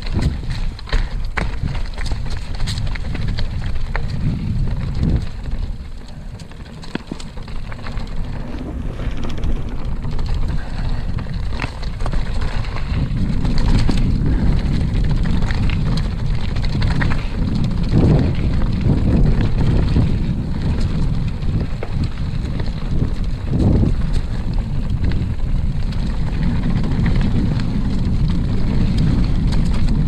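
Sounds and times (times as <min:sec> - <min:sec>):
bike clicks and rattles: 0:00.0 - 0:30.0
bike tyre noise: 0:00.0 - 0:30.0
wind buffeting microphone: 0:00.0 - 0:30.0.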